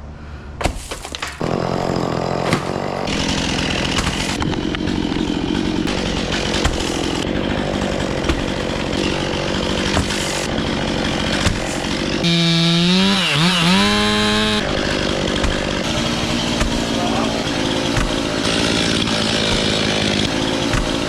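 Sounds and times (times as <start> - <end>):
chainsaw cutting wood: 1.1 - 21.0.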